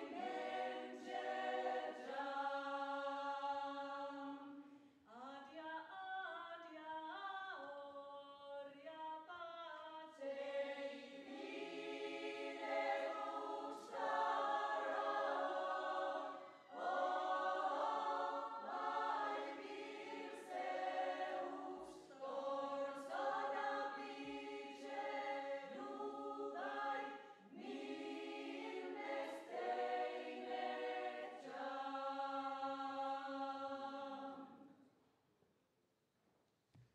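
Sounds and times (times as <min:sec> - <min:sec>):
women's choir singing a cappella: 0:00.0 - 0:06.0, 0:08.6 - 0:34.7.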